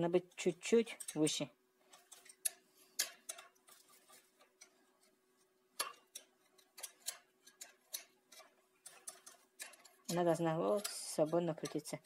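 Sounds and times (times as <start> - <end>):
screwdriver clicking and scraping metal: 0.1 - 5.1, 5.8 - 12.0.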